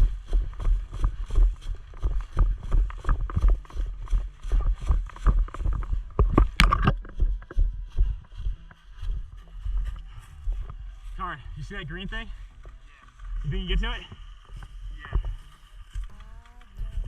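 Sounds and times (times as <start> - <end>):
quick footsteps: 0.0 - 17.0.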